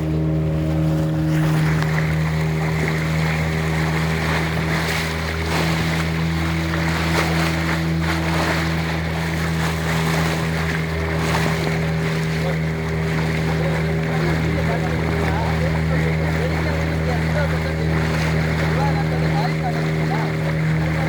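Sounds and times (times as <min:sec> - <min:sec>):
boat engine droning: 0:00.0 - 0:21.0
water rushing past hull: 0:00.0 - 0:21.0.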